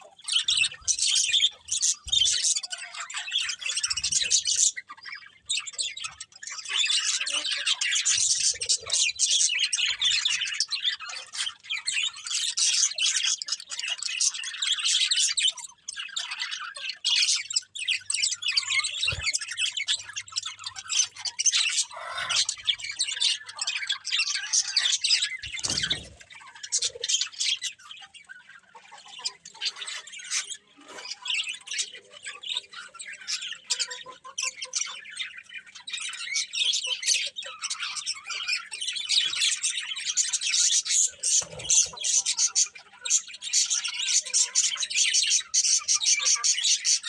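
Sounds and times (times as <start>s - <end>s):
small birds chirping and squawking: 0.0s - 47.0s.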